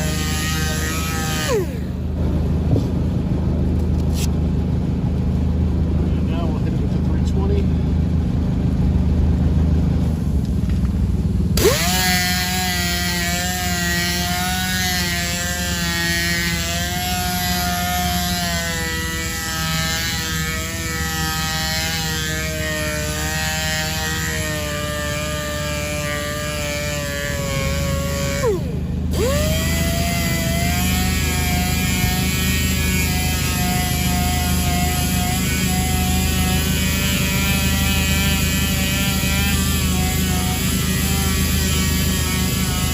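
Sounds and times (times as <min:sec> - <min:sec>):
power sander whining: 0:00.0 - 0:03.0, 0:11.6 - 0:42.9
steady low hum: 0:00.0 - 0:42.9.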